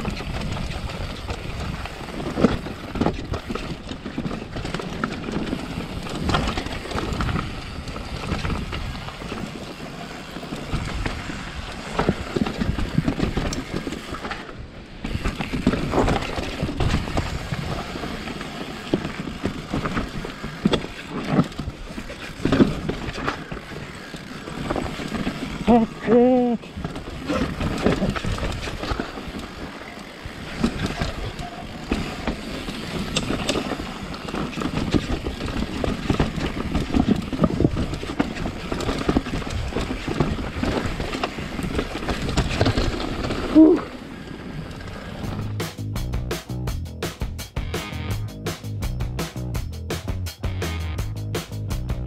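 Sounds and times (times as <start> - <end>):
bike knocks and rattles: 0.0 - 44.0, 44.7 - 52.0
tyre rumble: 0.0 - 44.1, 44.8 - 52.0.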